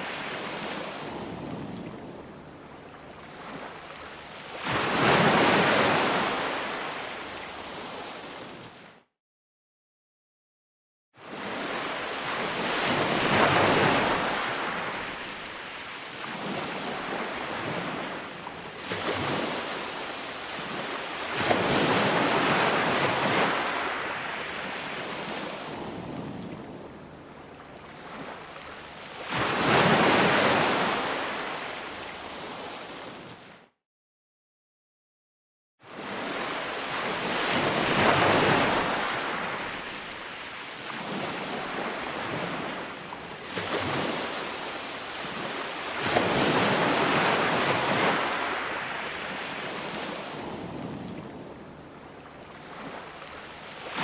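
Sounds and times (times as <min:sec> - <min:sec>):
ocean waves breaking on shore: 0:00.0 - 0:09.0, 0:11.2 - 0:33.7, 0:35.8 - 0:54.0.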